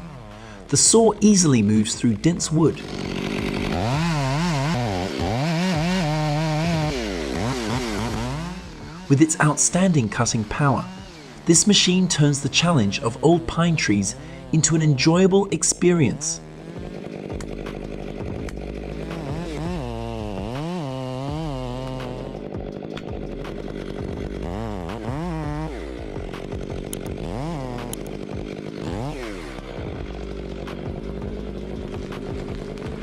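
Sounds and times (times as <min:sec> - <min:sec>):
chainsaw revving cutting wood: 0:00.0 - 0:33.0.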